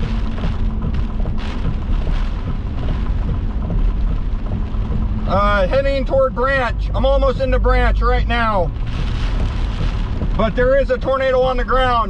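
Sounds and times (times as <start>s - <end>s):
rain hissing: 0.0s - 12.0s
rain spatters: 0.0s - 12.0s
road and engine rumble: 0.0s - 12.0s
wind noise: 0.0s - 12.0s.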